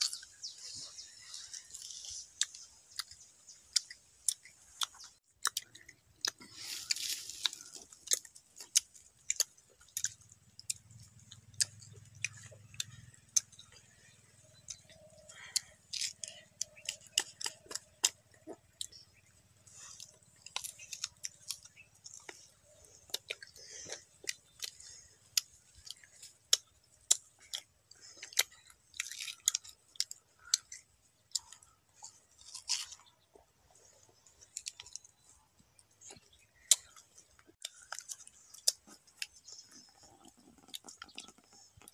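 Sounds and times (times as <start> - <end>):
crunching of raw mangoes: 0.0 - 41.9.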